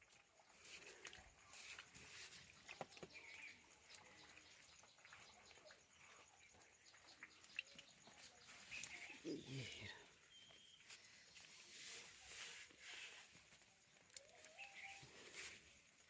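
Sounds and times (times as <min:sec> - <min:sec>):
faint bird chirps: 0:00.4 - 0:16.0.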